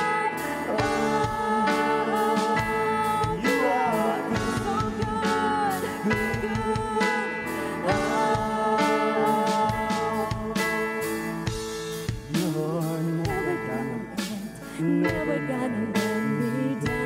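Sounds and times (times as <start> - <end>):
woman singing lead: 0.0 - 11.4, 12.2 - 17.0
worship band playing: 0.0 - 17.0.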